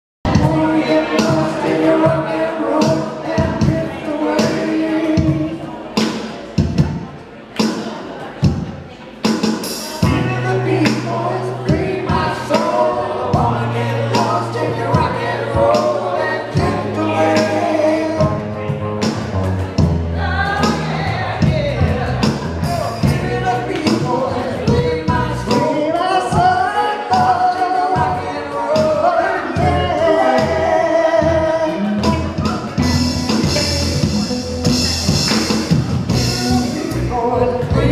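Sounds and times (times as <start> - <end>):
bass guitar: 0.2 - 7.1, 9.7 - 37.9
drums: 0.2 - 37.9.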